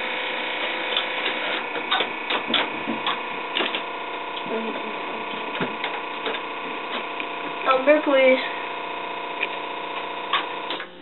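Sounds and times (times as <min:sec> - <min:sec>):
steady hum: 0:00.0 - 0:11.0
switchboard cords clicking: 0:00.6 - 0:11.0.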